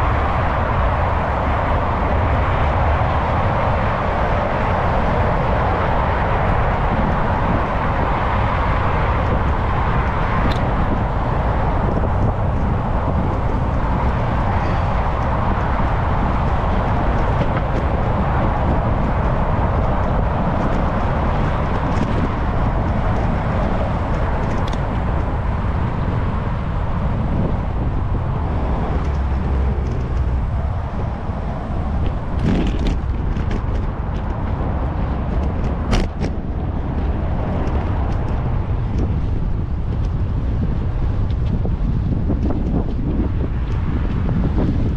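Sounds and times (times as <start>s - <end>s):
road noise: 0.0s - 44.9s
wind rushing over microphone: 0.0s - 44.9s.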